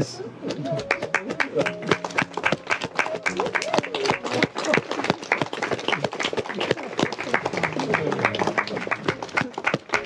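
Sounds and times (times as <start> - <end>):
crowd clapping: 0.5 - 10.0.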